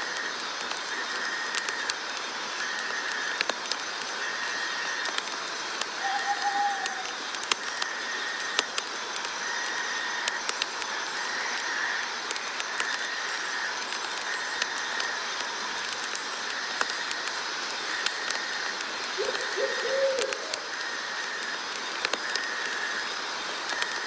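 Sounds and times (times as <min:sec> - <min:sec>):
steady hiss: 0:00.0 - 0:24.0
sharp ticks: 0:00.1 - 0:24.0.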